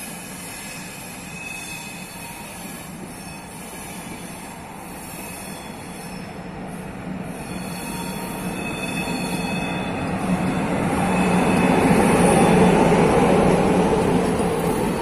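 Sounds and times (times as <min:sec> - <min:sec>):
train passing rumble: 0:02.2 - 0:15.0.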